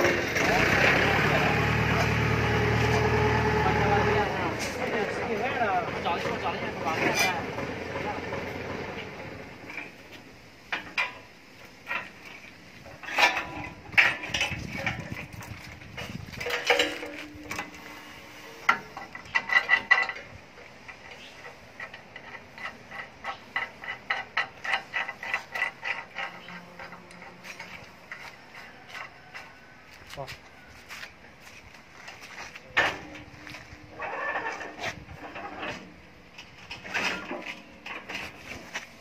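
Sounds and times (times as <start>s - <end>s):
roller chain clanking and clicking: 0.0s - 10.1s, 10.7s - 29.8s, 32.8s - 38.6s.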